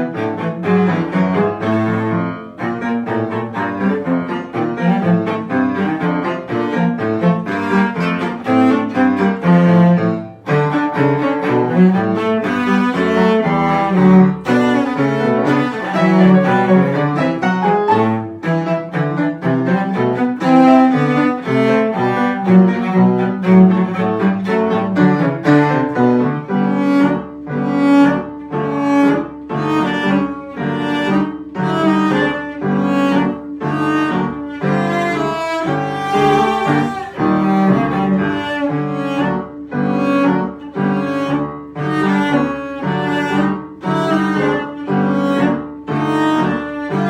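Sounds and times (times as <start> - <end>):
cello playing a march: 0.0 - 47.0
piano accompaniment: 0.0 - 47.0.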